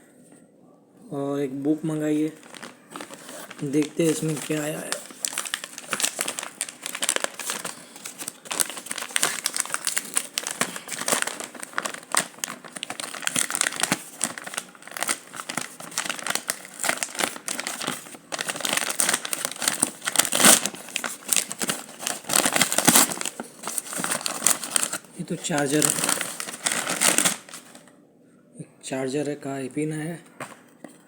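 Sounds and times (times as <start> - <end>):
packaging crumpling and tearing: 2.0 - 27.9.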